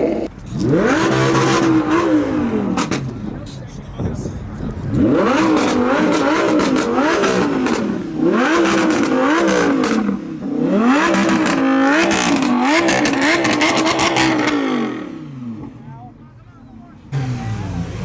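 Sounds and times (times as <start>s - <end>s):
car engine revving: 0.0s - 16.0s, 17.1s - 18.0s.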